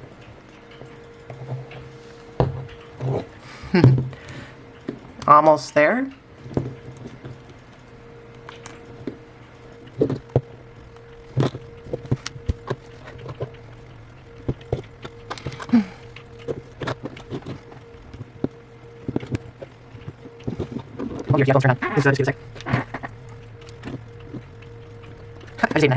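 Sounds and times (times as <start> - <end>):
low hum: 0.0 - 25.9.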